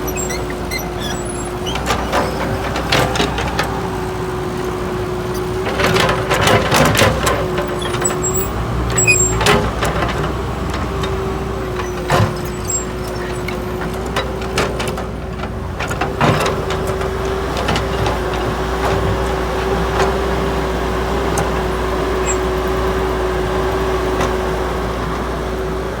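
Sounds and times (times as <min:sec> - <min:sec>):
heavy vehicle engine whining: 0:00.0 - 0:26.0.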